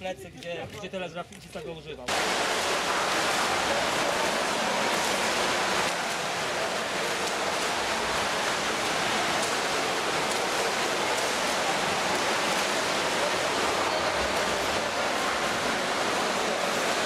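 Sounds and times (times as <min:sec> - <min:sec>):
swimmers splashing in pool: 0:02.1 - 0:17.0.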